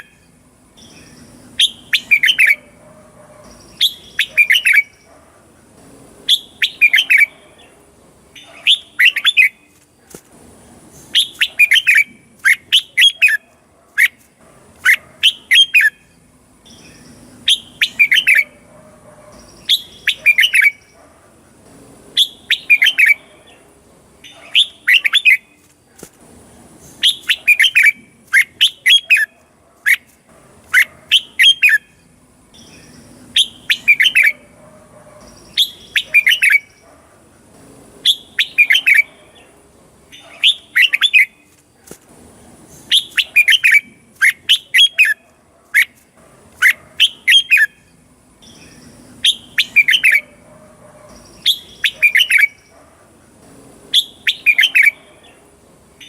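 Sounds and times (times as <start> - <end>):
bulbul singing warbled phrases: 0.0 - 2.8, 3.4 - 9.8, 10.8 - 14.2, 14.8 - 18.7, 19.3 - 25.6, 26.8 - 34.6, 35.2 - 36.8, 37.4 - 41.5, 42.6 - 45.2, 46.6 - 56.0.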